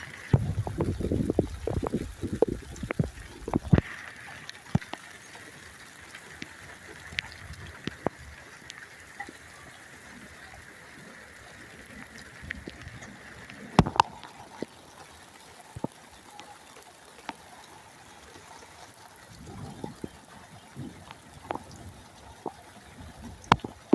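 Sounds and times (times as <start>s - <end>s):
raindrops tapping near microphone: 0.0s - 23.9s
steady rain: 0.0s - 23.9s
water trickling: 0.0s - 23.9s.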